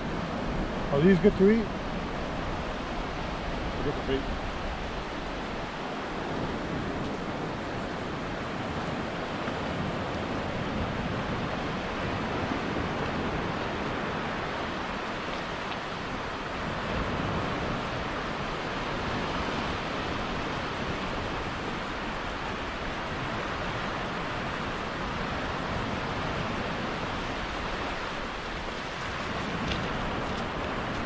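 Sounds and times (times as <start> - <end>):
small waves breaking on beach: 0.0 - 31.0.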